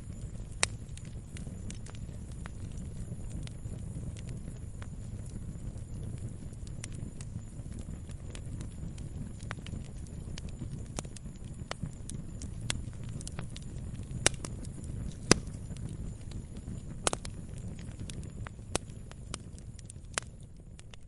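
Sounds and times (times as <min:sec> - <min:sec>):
log fire crackling and popping: 0:00.0 - 0:21.0.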